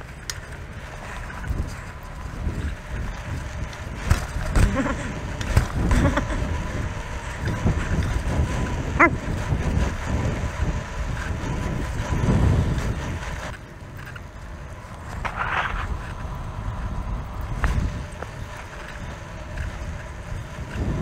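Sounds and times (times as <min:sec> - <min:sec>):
bike rolling over asphalt: 0:00.0 - 0:21.0
wind buffeting microphone: 0:00.0 - 0:21.0.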